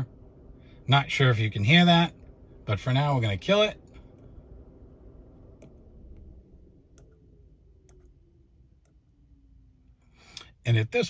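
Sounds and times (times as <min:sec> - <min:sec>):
cooling fan winding down: 0:00.0 - 0:11.0.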